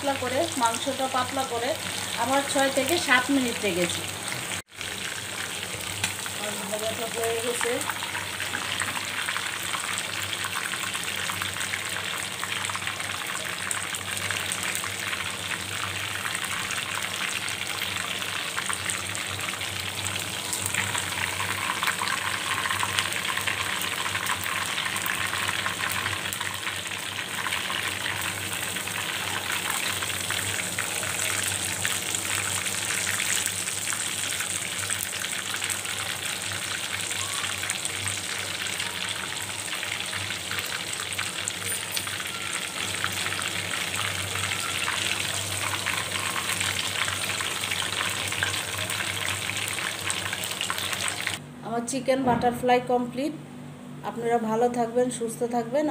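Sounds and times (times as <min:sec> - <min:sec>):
hot oil sizzling and crackling: 0:00.0 - 0:51.4.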